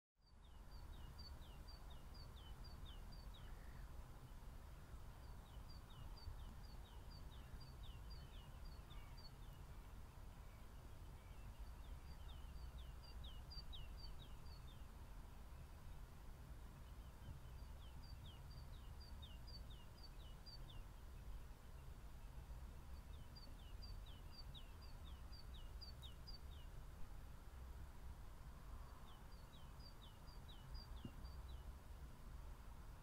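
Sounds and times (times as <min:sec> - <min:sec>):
small bird singing: 0:00.2 - 0:15.9, 0:16.7 - 0:26.8, 0:28.8 - 0:31.7.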